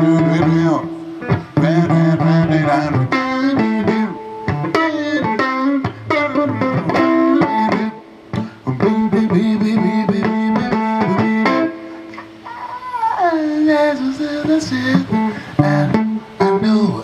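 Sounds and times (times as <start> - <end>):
blues band playing: 0.0 - 16.9
guitar solo: 0.0 - 17.0.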